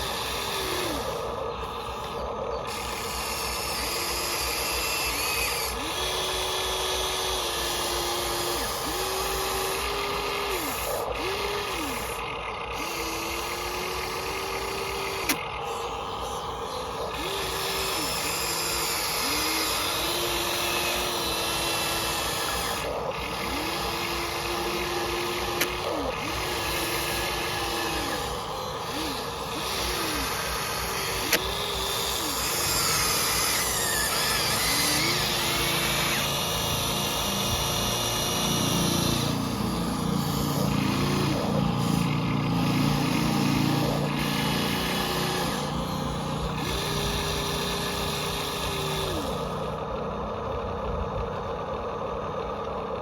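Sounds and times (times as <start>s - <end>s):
small electric motors whining: 0.0s - 53.0s.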